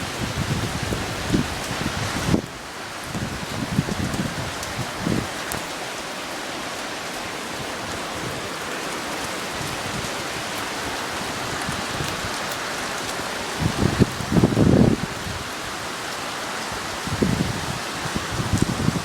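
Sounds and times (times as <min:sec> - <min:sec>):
heavy rain on surfaces: 0:00.0 - 0:19.0.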